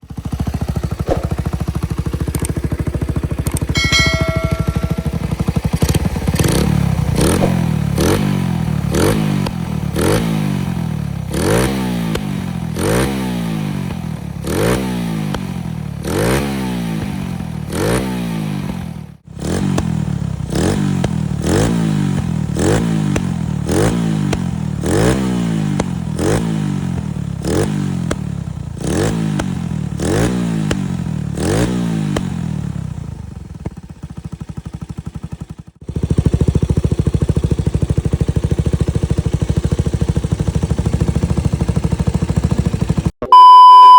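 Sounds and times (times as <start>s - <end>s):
motorcycle engine revving: 0.0s - 43.1s.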